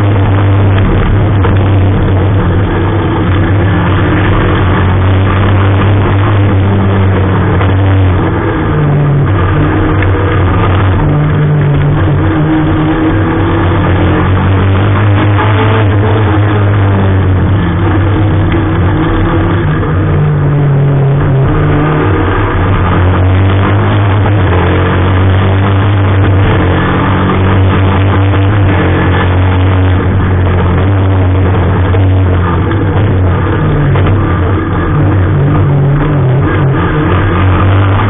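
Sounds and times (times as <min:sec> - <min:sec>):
car engine under load: 0:00.0 - 0:38.0.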